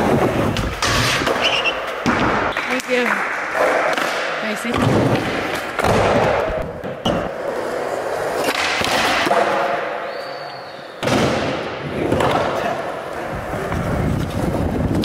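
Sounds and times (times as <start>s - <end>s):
skateboard wheels rolling on concrete: 0.0s - 15.0s.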